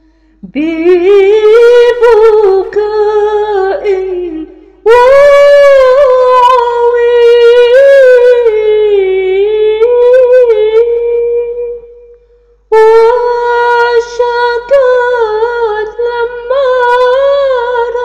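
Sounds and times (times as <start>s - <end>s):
woman singing unaccompanied: 0.4s - 11.9s, 12.7s - 18.0s.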